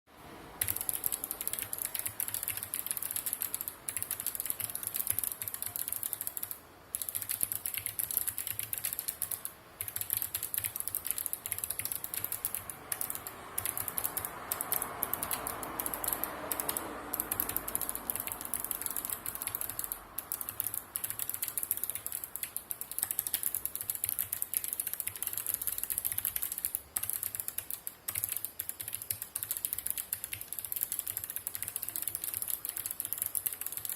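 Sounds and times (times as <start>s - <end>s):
fast typing on clicky keyboard: 0.6s - 33.9s.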